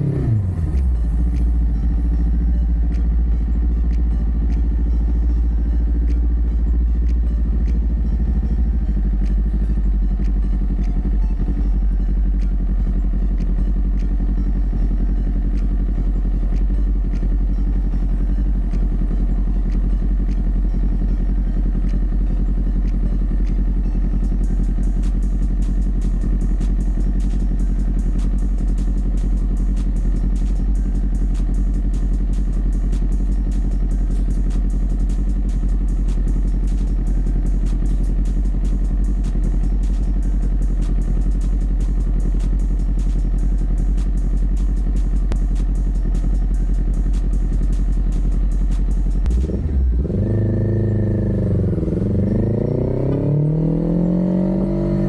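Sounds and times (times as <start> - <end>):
motorbike engine rumbling: 0.0 - 55.0.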